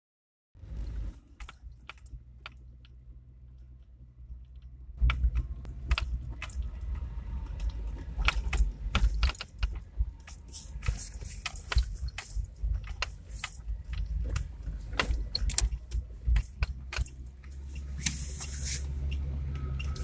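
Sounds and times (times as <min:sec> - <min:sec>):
car suspension knocking and rattling: 0:00.6 - 0:18.0
low rumble: 0:02.1 - 0:20.0.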